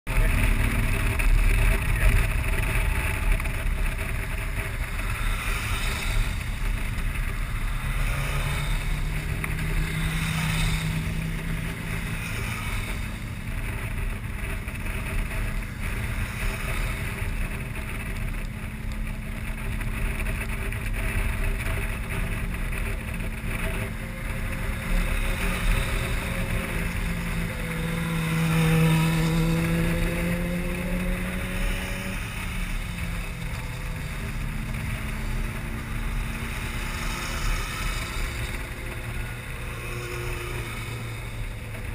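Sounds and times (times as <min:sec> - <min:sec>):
motorcycle engine running: 0:00.1 - 0:41.9
wind rushing over microphone: 0:00.1 - 0:41.9.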